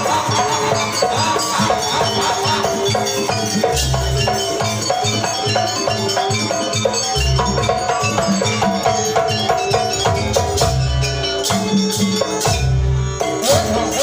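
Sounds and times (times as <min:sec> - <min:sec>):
sharp percussion hits: 0:00.0 - 0:14.0.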